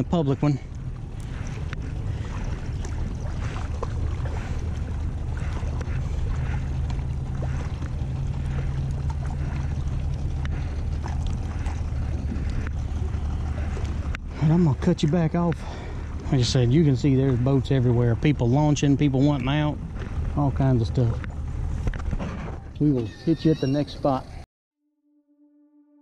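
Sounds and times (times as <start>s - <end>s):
water washing: 0.0s - 21.9s
boat motor droning: 0.0s - 24.4s
light wind: 0.0s - 24.4s.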